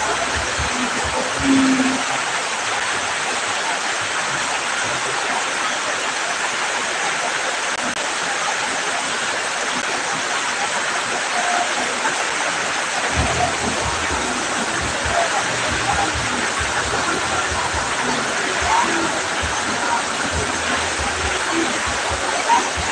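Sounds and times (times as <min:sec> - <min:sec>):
heavy rain on grass: 0:00.0 - 0:22.9.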